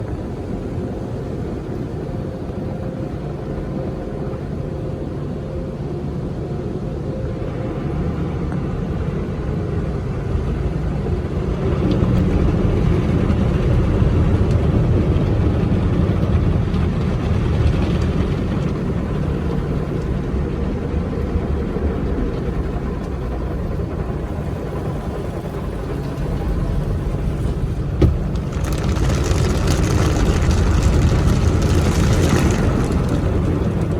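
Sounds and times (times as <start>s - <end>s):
car wash machinery rumble: 0.0s - 33.9s.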